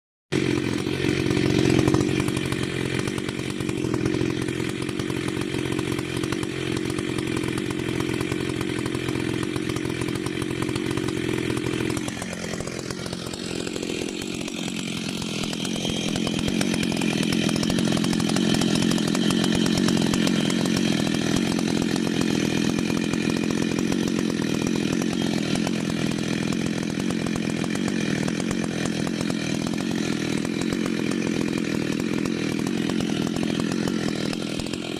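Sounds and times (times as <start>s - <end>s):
chainsaw running at high revs: 0.3s - 34.9s.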